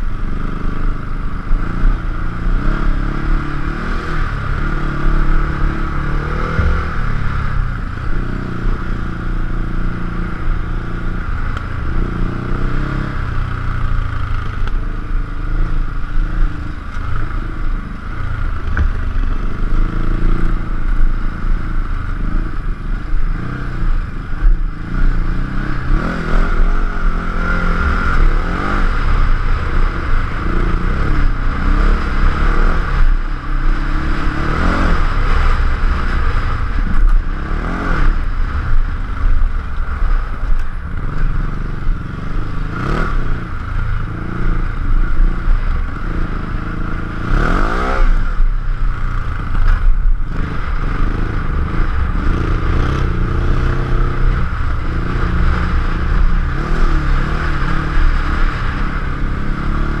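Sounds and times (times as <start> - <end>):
motorcycle engine revving: 0.0 - 60.0
gravel scraping and clatter: 0.8 - 60.0.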